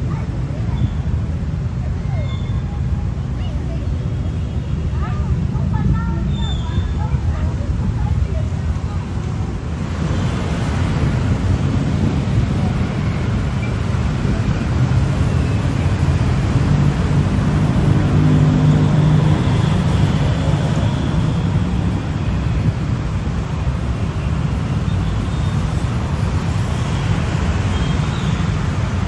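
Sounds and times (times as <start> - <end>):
road traffic: 0.0 - 29.0.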